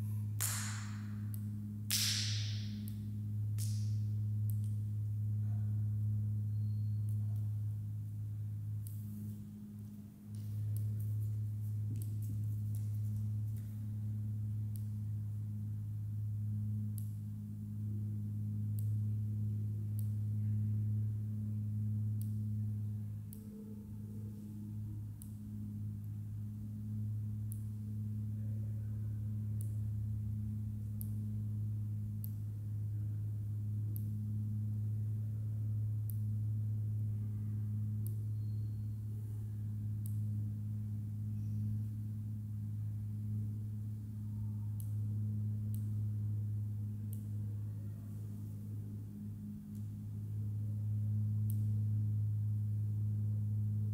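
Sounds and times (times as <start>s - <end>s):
low-pitched drone: 0.0s - 53.9s.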